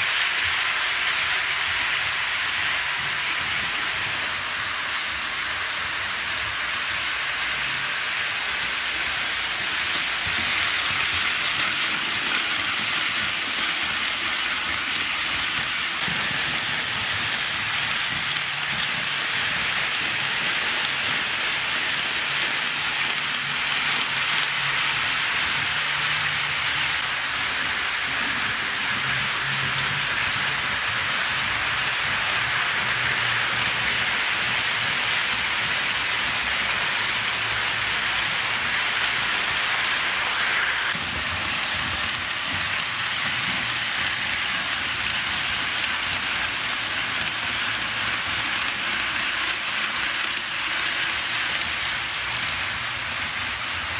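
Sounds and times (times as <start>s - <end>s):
metal wheels rolling on rails: 9.1s - 53.9s.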